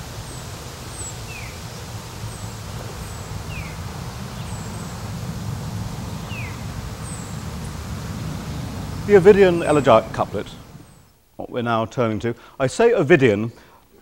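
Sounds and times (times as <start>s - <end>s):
small birds chirping: 0.0s - 11.3s
low rumble and hiss: 0.0s - 14.0s.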